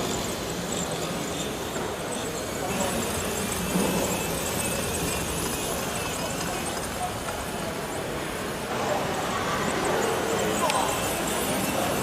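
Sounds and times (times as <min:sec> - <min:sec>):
indistinct voices: 0:00.0 - 0:12.0
steady background noise: 0:00.0 - 0:12.0.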